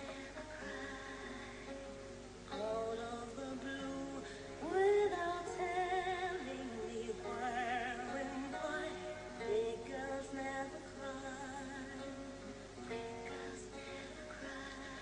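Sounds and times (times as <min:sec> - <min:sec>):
musical accompaniment: 0:00.0 - 0:15.0
woman singing: 0:00.0 - 0:15.0.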